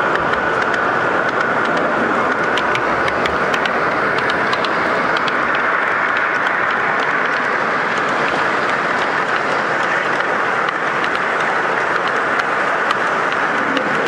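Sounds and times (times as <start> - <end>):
model train wheels clicking on track: 0.0 - 14.0.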